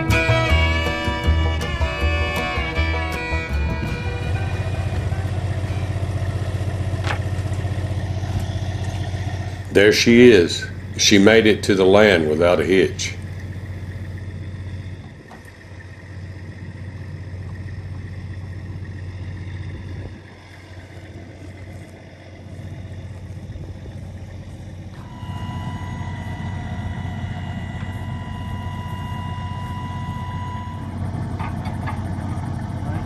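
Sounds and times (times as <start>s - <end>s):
diesel truck engine running: 0.0s - 33.0s
steady higher whine: 0.0s - 33.0s.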